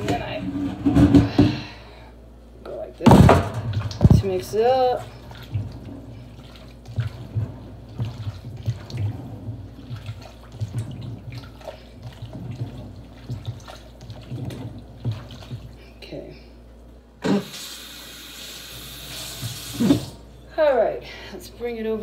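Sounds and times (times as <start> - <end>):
water sloshing in a pot: 2.7 - 20.4.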